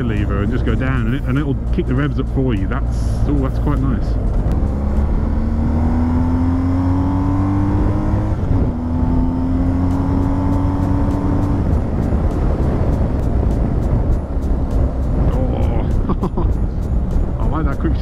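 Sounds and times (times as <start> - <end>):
low wind rumble: 0.0 - 18.0
motorcycle engine accelerating: 0.0 - 18.0.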